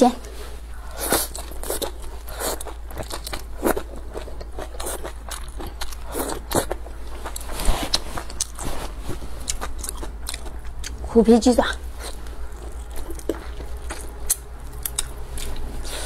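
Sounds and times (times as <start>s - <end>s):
person chewing food: 0.6s - 11.1s, 11.8s - 16.0s.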